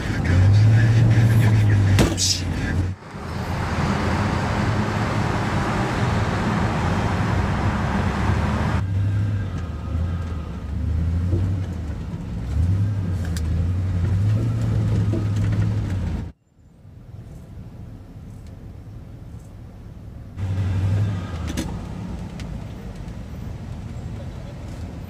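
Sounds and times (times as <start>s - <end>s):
car engine and road hum: 0.0s - 25.0s.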